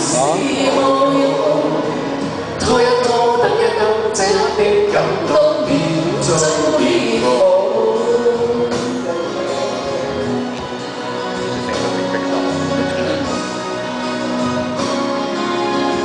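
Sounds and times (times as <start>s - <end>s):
instrumental backing: 0.0s - 16.0s.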